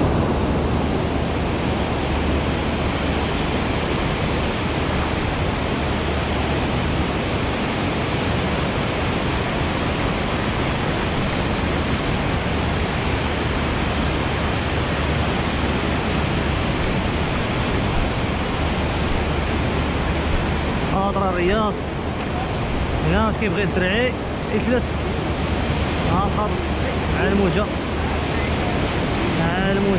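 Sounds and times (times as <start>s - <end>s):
ocean surf breaking on beach: 0.0s - 29.9s.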